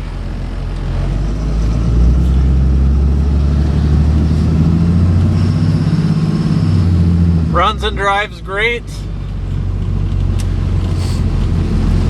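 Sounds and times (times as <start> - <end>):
diesel truck engine pulling away: 0.0 - 12.0.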